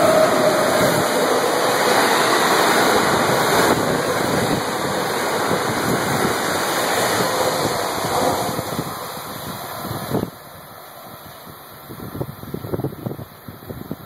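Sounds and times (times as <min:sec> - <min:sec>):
train coaches rushing past: 0:00.0 - 0:11.6.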